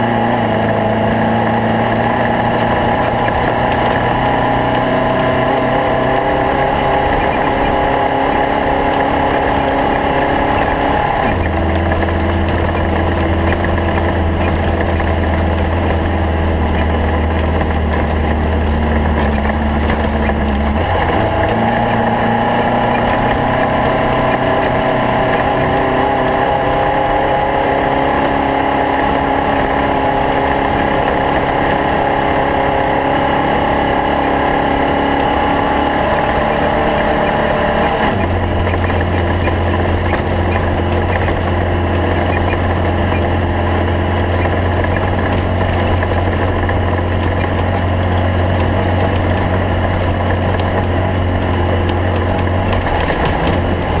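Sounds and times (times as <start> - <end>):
race car engine droning: 0.0 - 54.0.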